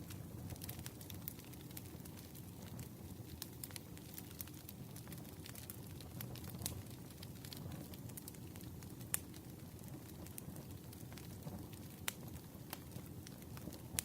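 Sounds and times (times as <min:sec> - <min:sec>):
burning logs crackling and popping: 0:00.0 - 0:14.0
campfire flames rushing: 0:00.0 - 0:14.0.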